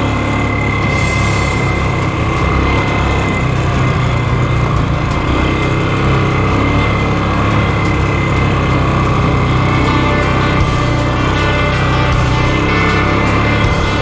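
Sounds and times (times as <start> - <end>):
quad engine running: 0.0 - 14.0
thin high whine: 0.0 - 14.0.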